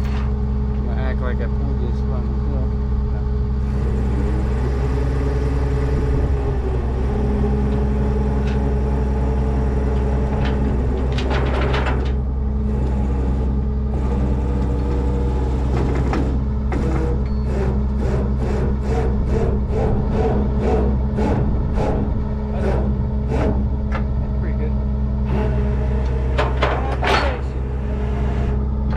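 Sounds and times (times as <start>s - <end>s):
truck engine running: 0.0s - 28.9s.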